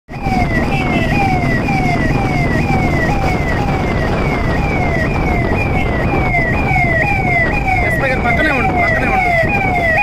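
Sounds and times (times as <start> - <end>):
siren wailing: 0.1 - 10.0
steady low rumble: 0.2 - 8.3.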